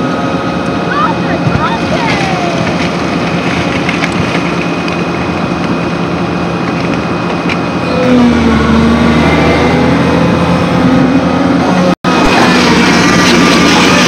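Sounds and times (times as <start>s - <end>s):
excavator diesel engine and hydraulics: 0.0s - 14.0s
wavering whine: 0.0s - 14.0s.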